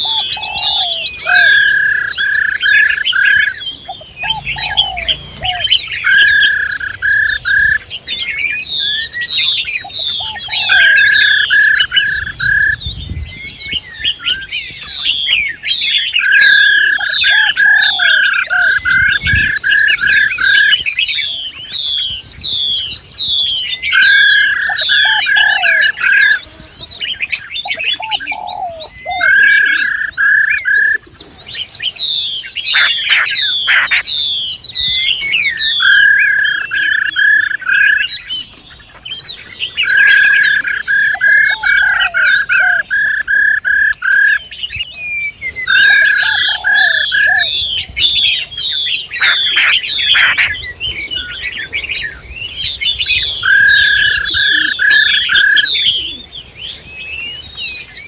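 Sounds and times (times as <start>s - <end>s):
bird repeated notes: 0.0s - 50.6s
songbirds twittering: 0.0s - 58.0s.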